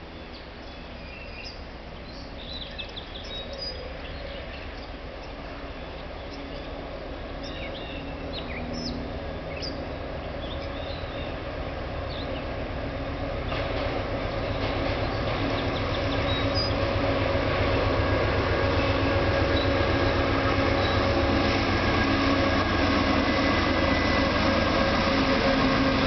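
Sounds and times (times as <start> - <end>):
passenger train rumble: 0.0 - 26.0
birds chirping: 0.1 - 26.0.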